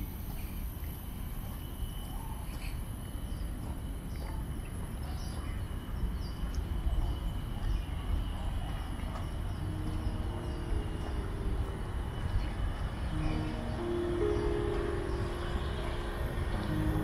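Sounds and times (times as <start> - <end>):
faint insect drone: 0.0 - 17.0
birds chirping: 2.0 - 17.0.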